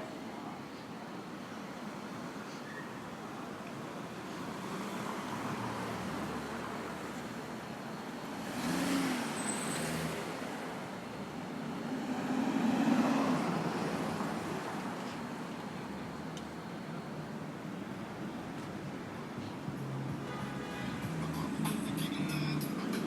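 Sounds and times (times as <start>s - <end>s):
road traffic noise: 0.0s - 23.0s
vehicles passing close by: 0.0s - 23.0s.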